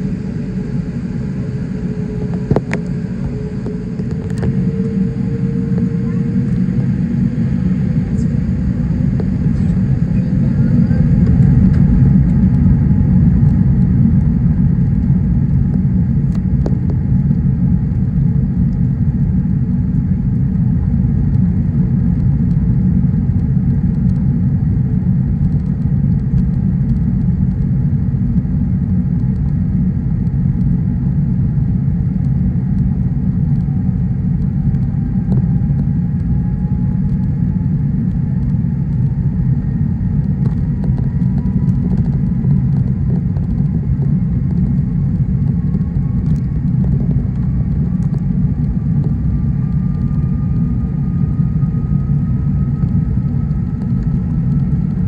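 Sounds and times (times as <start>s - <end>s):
aircraft engines and wheels rumbling: 0.0s - 55.0s
faint engine whine: 0.0s - 55.0s.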